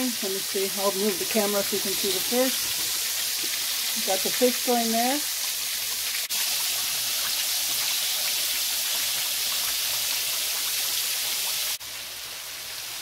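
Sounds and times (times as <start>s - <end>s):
fries sizzling in oil: 0.0s - 13.0s.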